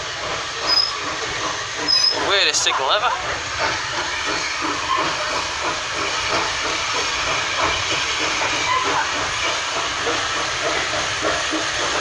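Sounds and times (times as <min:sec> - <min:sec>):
steam train hissing: 0:00.0 - 0:12.0.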